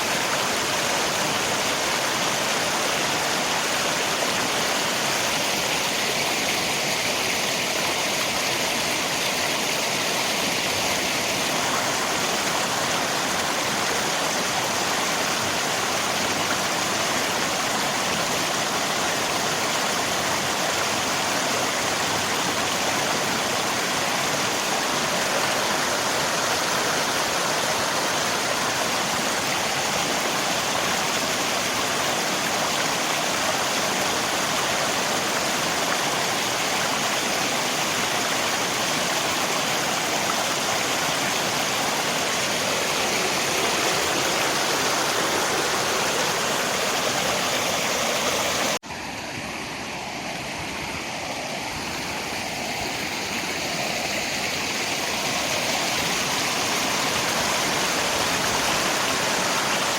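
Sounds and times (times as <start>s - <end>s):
rain: 0.0s - 59.9s
river water rushing: 0.0s - 59.9s.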